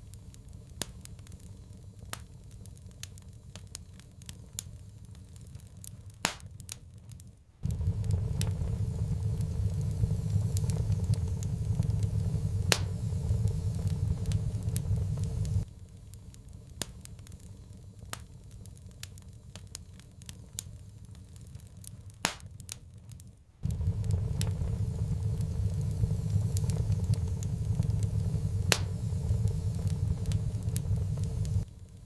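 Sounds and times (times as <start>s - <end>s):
fire popping and snapping: 0.0s - 32.0s
low rumble of burning fire: 0.0s - 32.0s.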